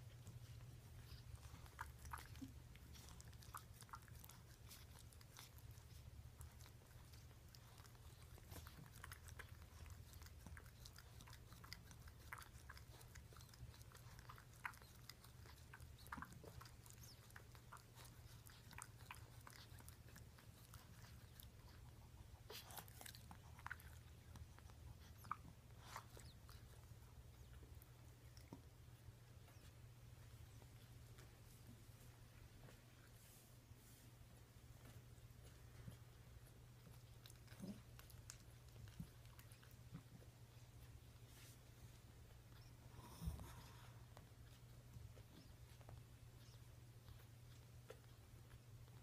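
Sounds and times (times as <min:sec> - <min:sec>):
puppies suckling clicks: 0:00.0 - 0:31.4, 0:34.8 - 0:49.0
low steady hum: 0:00.0 - 0:49.0.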